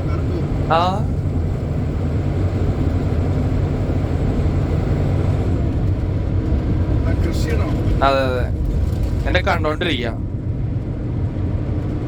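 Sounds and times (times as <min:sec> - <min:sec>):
road rumble: 0:00.0 - 0:12.0
truck engine drone: 0:00.0 - 0:12.0.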